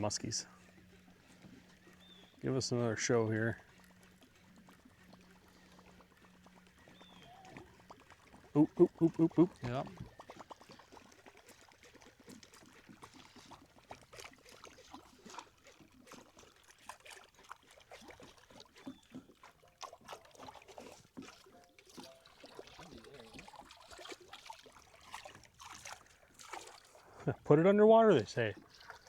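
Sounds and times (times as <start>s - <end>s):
small clicks and splashes: 0.0s - 27.3s, 28.2s - 29.0s
water lapping against boat hull: 0.0s - 29.0s.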